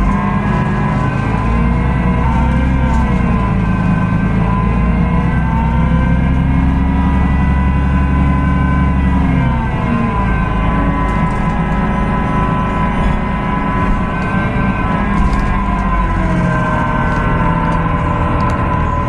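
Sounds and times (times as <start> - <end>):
bus diesel engine drone: 0.0 - 19.0
whining tones: 0.0 - 19.0.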